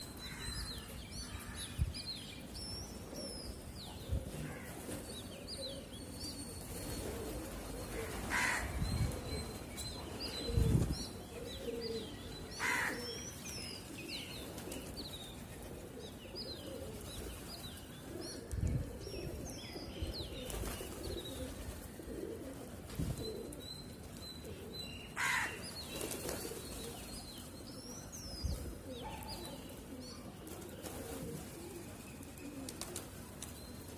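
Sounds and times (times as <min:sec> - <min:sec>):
pigeons cooing: 0:03.0 - 0:13.2, 0:13.8 - 0:23.7, 0:24.4 - 0:33.2.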